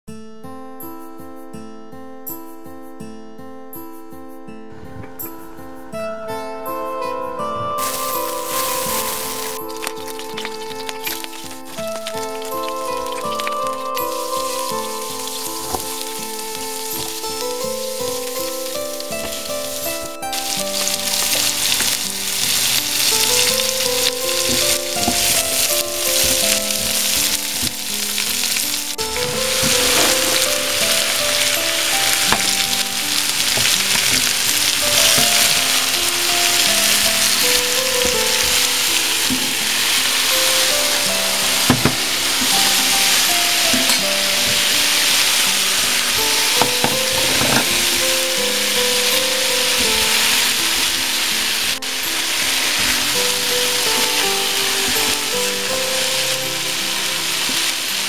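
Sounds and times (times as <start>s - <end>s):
soft melodic background music: 0.1s - 58.0s
spatula stirring: 7.8s - 58.0s
vegetables sizzling in a pan: 7.8s - 58.0s.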